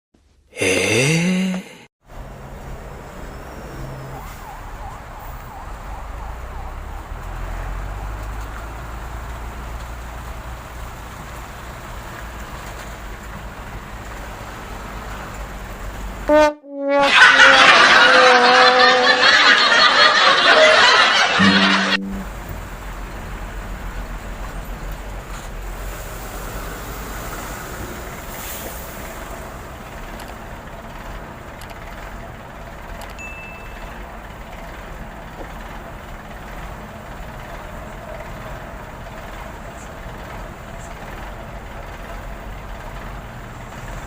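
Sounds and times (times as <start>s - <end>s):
low rumble of heavy trucks: 0.2s - 16.5s, 17.1s - 44.0s
passing vehicles: 2.0s - 16.3s, 17.2s - 44.0s.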